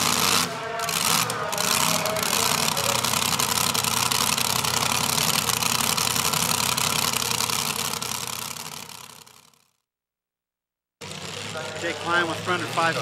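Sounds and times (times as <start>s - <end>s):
truck engine idling: 0.0s - 9.6s, 11.0s - 13.0s.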